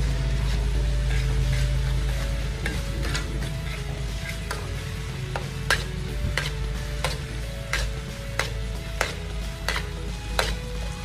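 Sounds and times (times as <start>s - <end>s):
metal spatula scraping a wok: 0.0s - 11.0s.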